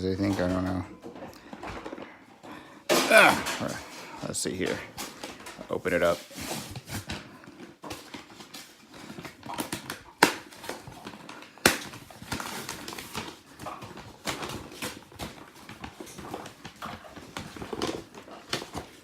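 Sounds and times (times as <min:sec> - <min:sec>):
case clicks and rustles: 0:03.0 - 0:19.0.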